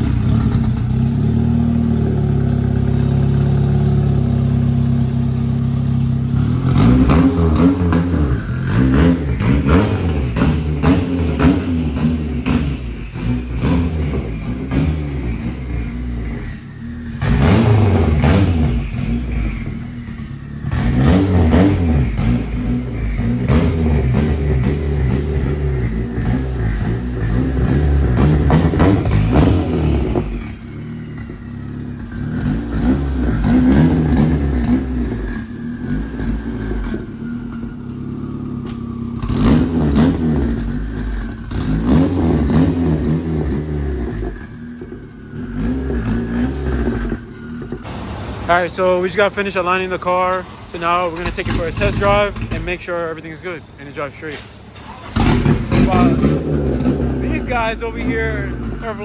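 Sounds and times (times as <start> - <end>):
car engine revving and accelerating: 0.0 - 59.0.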